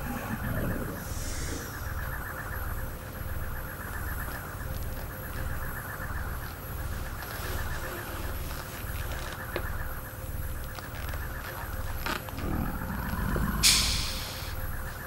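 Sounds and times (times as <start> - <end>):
low electronic hum: 0.0 - 15.0.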